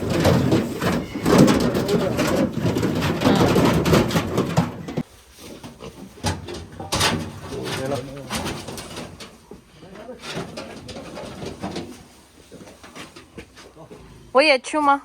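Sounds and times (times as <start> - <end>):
pigs grunting: 0.0 - 14.4
pigs jostling in a pen: 0.0 - 14.4.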